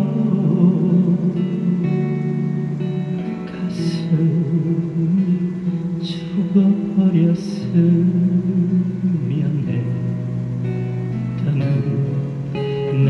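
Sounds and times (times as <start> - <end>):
guitar accompaniment: 0.0 - 13.0
person singing a ballad: 0.0 - 13.0.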